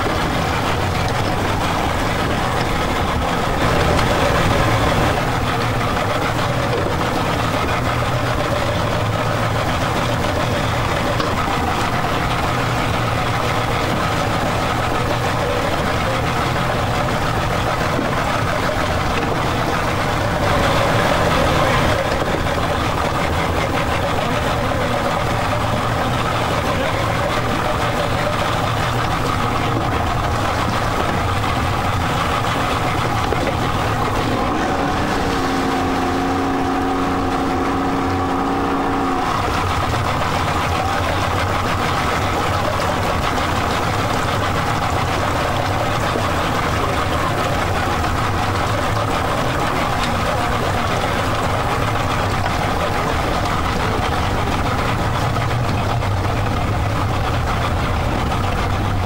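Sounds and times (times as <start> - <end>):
outboard engine idling: 0.0 - 59.0.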